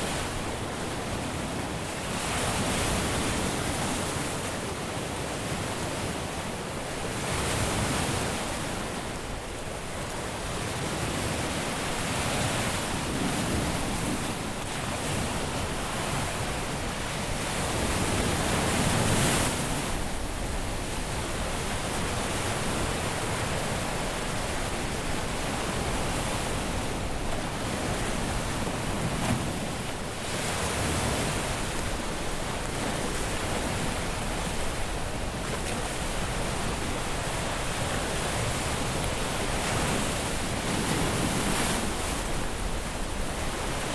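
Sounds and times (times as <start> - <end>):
sea waves breaking on a beach: 0.0 - 43.9.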